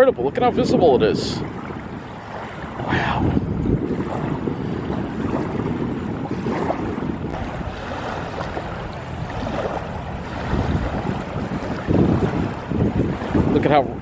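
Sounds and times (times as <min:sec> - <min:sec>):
waves lapping at shore: 0:00.0 - 0:14.0
wind buffeting microphone: 0:00.0 - 0:14.0.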